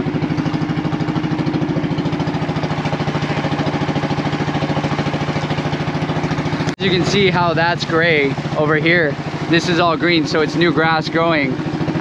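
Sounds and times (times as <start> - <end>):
motorboat engine throbbing: 0.0 - 12.0.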